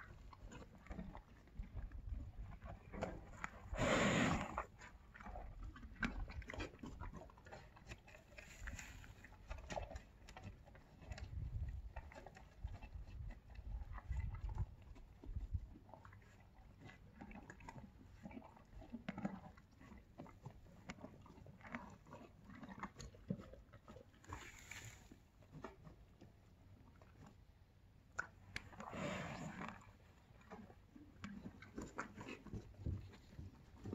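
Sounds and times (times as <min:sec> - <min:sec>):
horse chewing feed: 0:00.0 - 0:33.9.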